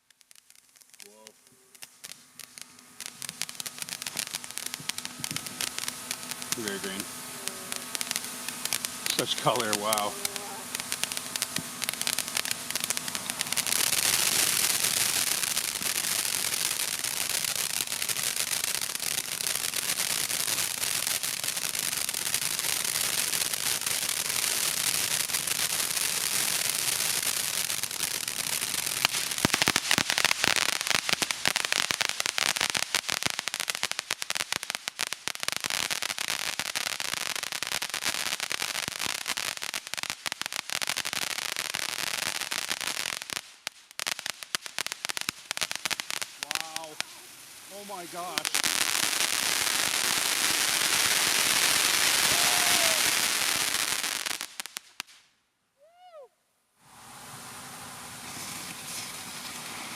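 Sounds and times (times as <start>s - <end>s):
fireworks popping: 0.0s - 55.3s, 58.1s - 59.9s
fireworks crackling: 0.0s - 56.2s, 56.8s - 59.9s.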